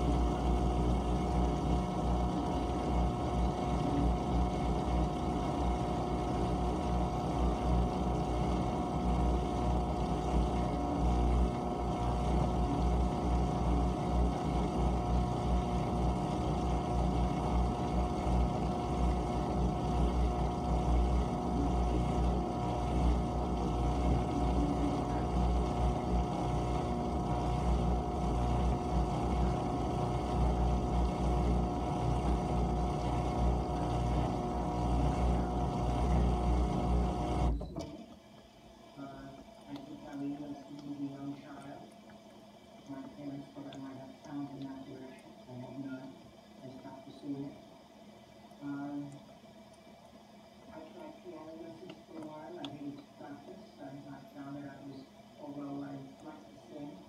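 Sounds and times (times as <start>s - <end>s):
constant whine: 0.0s - 57.0s
dishwasher motor hum: 0.0s - 57.0s.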